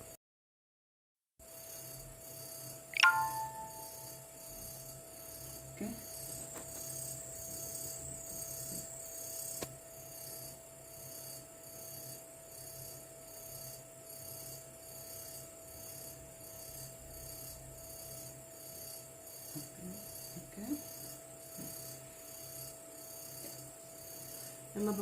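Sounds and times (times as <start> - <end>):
mechanical hum: 1.4 - 25.0.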